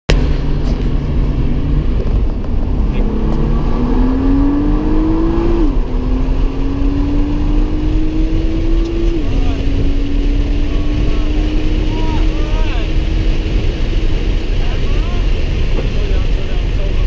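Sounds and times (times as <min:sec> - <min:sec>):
car engine accelerating: 0:00.1 - 0:17.0
road and tyre rumble: 0:00.1 - 0:17.0.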